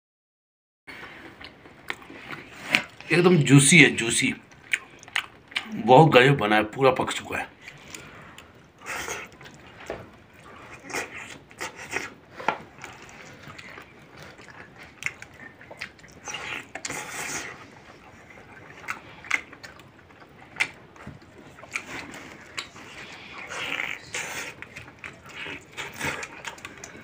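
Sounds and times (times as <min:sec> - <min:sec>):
man chewing food: 0:00.9 - 0:05.9, 0:07.5 - 0:27.0.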